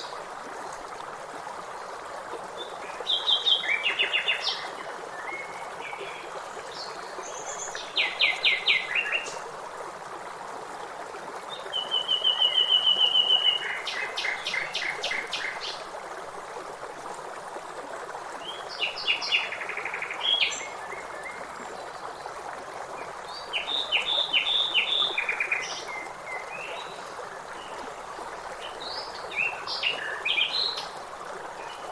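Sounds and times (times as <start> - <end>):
stream rushing: 0.0 - 31.9.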